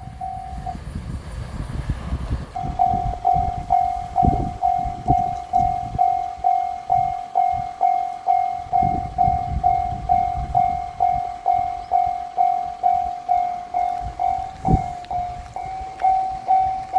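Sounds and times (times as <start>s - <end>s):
level crossing warning bell: 0.0s - 0.8s, 2.5s - 16.9s
train rumbling: 0.0s - 16.9s.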